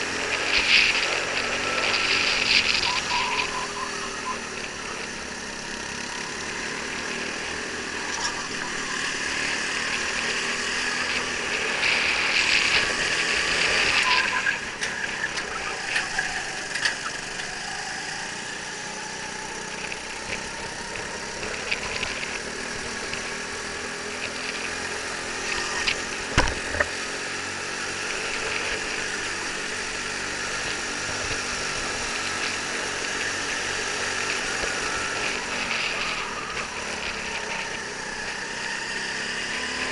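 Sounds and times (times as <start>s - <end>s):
go-kart engines revving: 0.0s - 39.9s.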